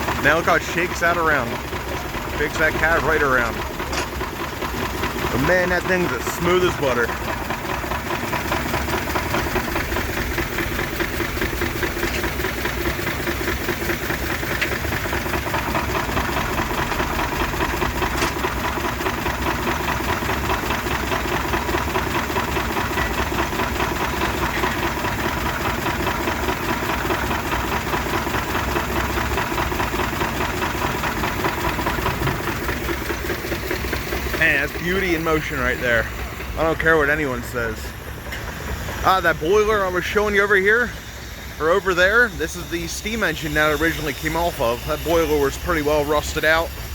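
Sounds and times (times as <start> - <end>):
old engine running: 0.0 - 46.9.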